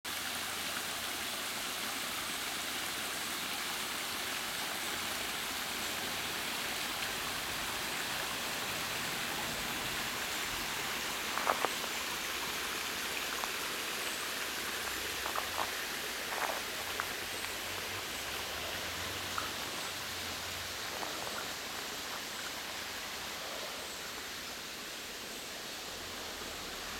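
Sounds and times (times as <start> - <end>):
water rushing down waterfall: 0.0 - 26.9.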